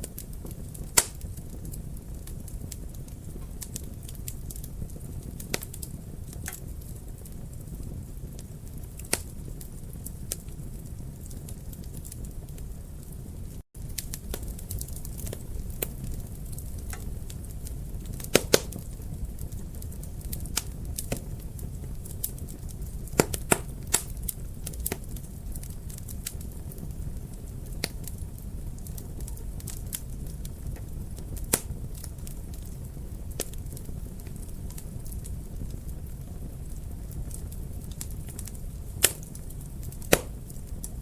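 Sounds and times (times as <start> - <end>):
fire snapping and popping: 0.0 - 41.0
flames rumbling: 0.0 - 41.0.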